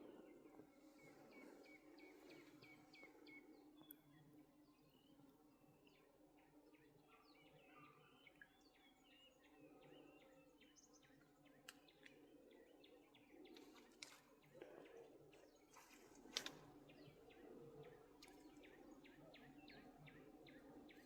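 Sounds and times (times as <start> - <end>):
faint birds chirping: 0.0 - 21.0
outdoor background noise: 0.0 - 21.0.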